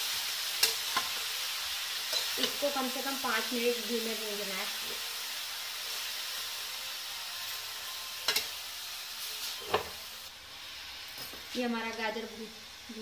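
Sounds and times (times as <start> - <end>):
carrots sizzling in a pan: 0.0 - 13.0.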